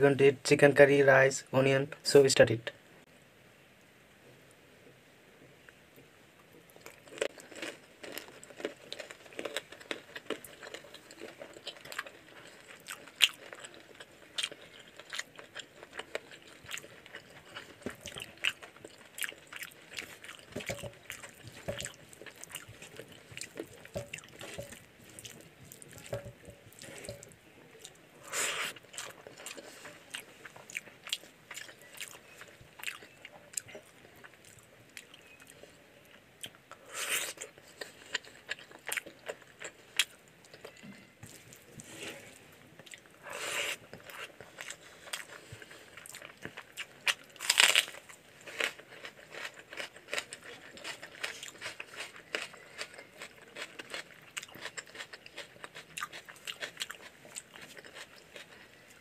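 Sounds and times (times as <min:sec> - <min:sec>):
wet chewing: 0:06.8 - 0:35.6, 0:36.4 - 0:59.0.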